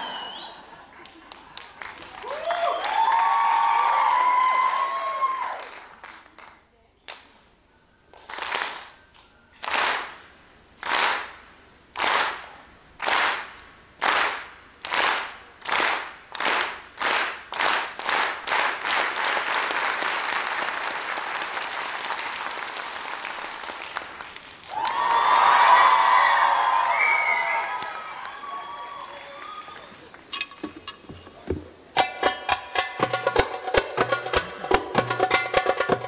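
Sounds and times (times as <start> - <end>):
audience clapping in time: 0.0 - 7.4, 8.1 - 30.3
continuous applause: 0.0 - 7.4, 8.1 - 30.3.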